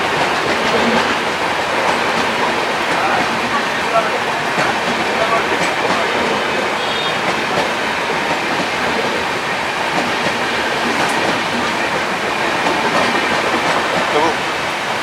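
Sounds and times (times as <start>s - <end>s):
heavy rain hiss: 0.0s - 15.0s
train running slowly: 0.0s - 15.0s.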